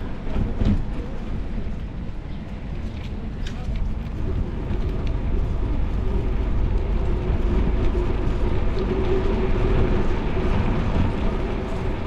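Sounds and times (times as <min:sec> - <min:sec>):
bicycle tyre and wind noise: 0:01.9 - 0:12.0.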